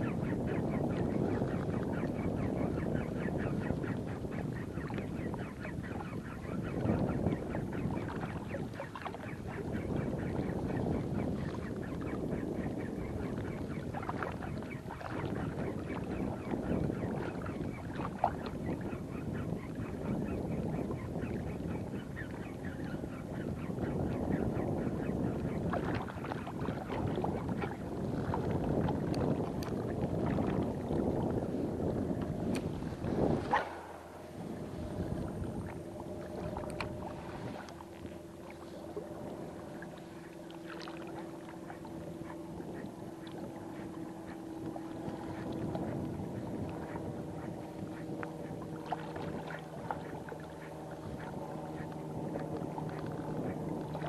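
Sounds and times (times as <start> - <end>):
low engine hum: 6.9 - 54.0.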